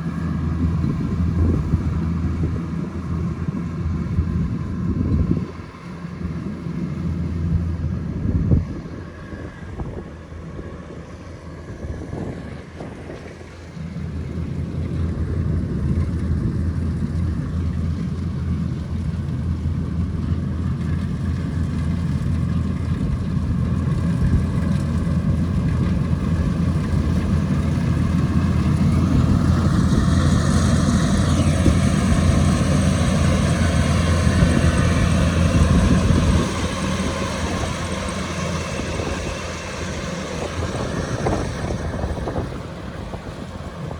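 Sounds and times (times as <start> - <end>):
harvester engine humming: 0.0 - 43.9.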